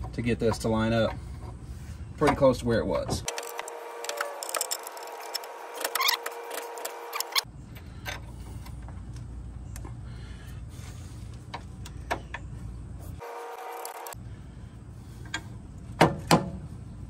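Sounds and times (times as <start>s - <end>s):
low steady rumble: 0.0s - 6.2s, 7.4s - 13.2s, 14.1s - 17.0s.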